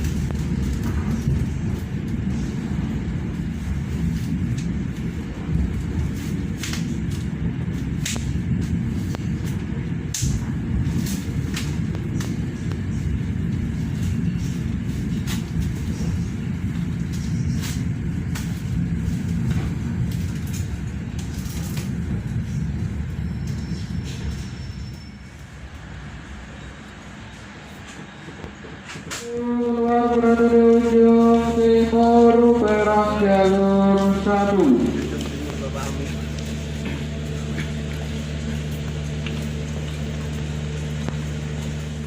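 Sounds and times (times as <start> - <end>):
train rumbling on track: 0.0 - 42.0.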